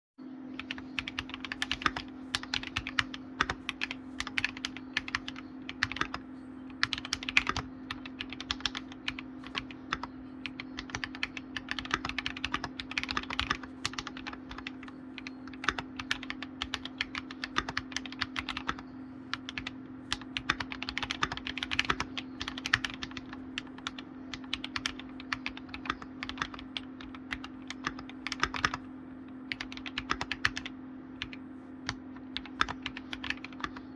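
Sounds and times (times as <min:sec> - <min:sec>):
steady low hum: 0:00.2 - 0:33.9
keyboard typing clicks: 0:00.6 - 0:33.9.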